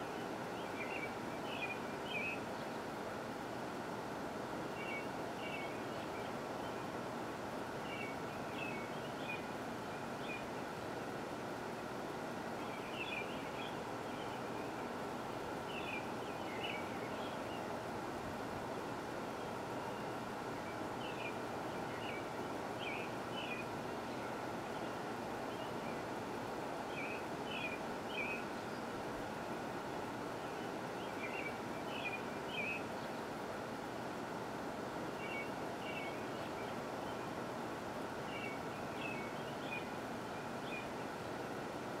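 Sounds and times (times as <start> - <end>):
outdoor hiss: 0.0 - 42.0.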